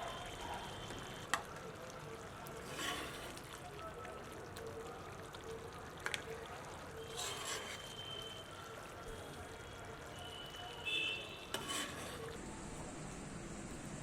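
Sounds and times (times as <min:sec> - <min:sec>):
liquid trickling in a pot: 0:00.0 - 0:12.4.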